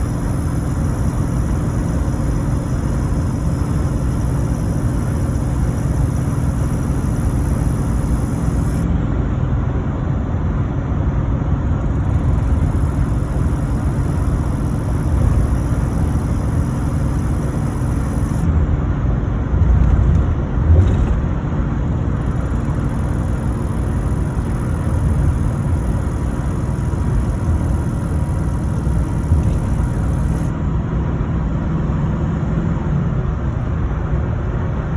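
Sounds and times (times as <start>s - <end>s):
diesel engine rumble: 0.0s - 34.9s
turbo whine: 0.0s - 34.9s.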